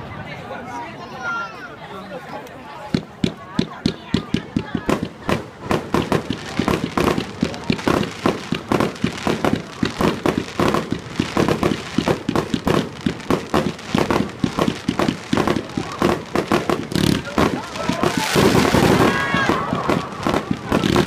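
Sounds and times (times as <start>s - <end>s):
fireworks bangs and crackle: 2.8s - 21.0s.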